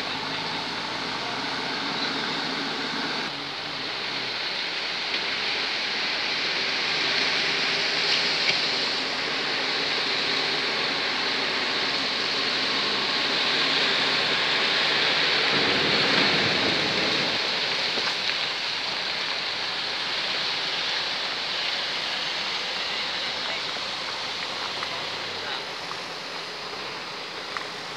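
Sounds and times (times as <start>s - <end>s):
river rushing over rapids: 0.0s - 27.9s.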